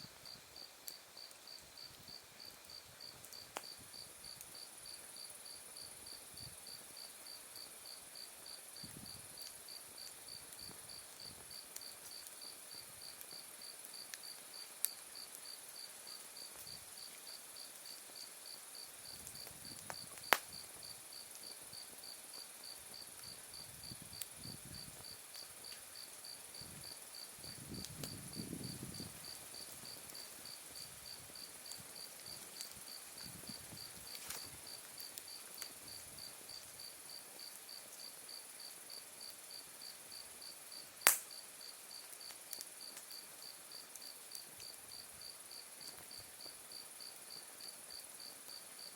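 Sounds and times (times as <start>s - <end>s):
fire popping: 0.0s - 7.5s, 8.3s - 37.6s, 41.0s - 45.1s
wood fire crackling: 0.0s - 48.9s.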